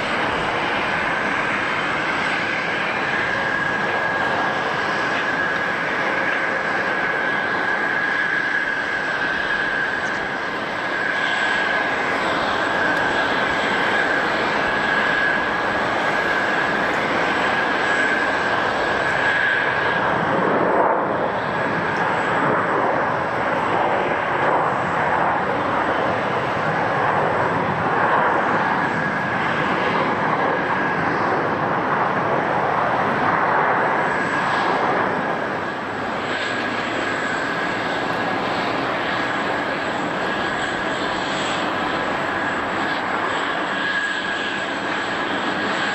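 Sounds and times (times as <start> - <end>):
jet engines running with whine: 0.0 - 45.9.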